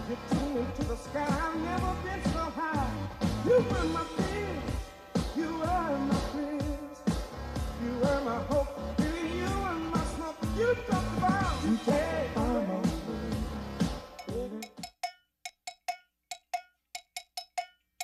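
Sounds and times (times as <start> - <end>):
funk music with singing: 0.0 - 14.9
steady drum beat: 0.0 - 17.8.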